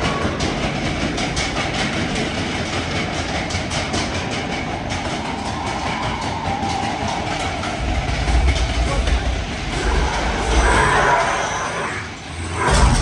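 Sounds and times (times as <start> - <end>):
roller coaster rumbling on track: 0.0 - 13.0
wheels clacking and rattling: 0.0 - 13.0.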